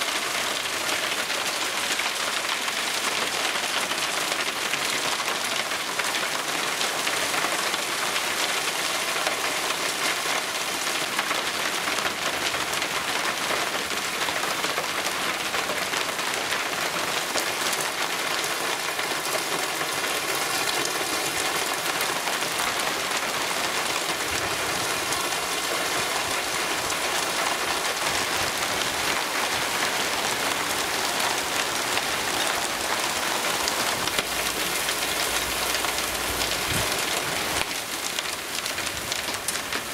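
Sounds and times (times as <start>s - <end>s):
heavy rain pouring: 0.0s - 39.9s
hailstones striking: 0.1s - 39.9s.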